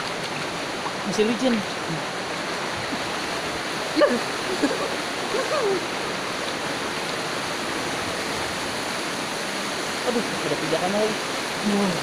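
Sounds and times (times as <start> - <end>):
river water rushing past rocks: 0.0 - 12.0.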